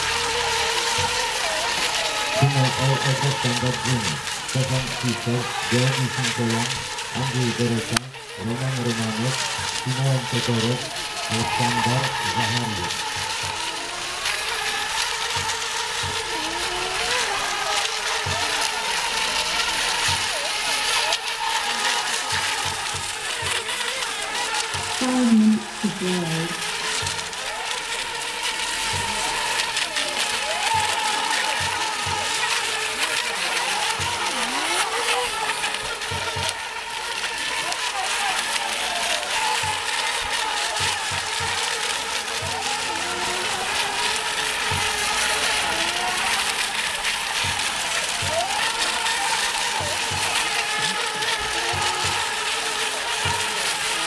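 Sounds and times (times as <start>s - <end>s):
model boat motors whining: 0.0s - 54.0s.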